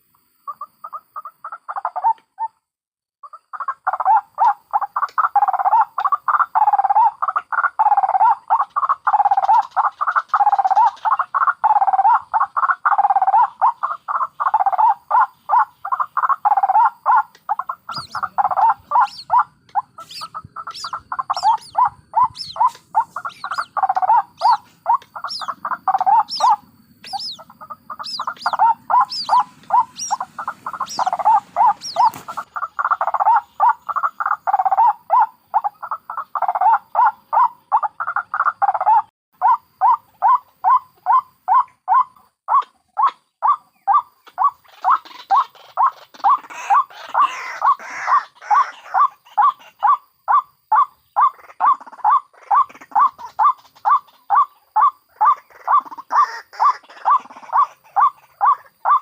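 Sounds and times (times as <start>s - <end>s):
bird croaking call: 3.2s - 59.0s.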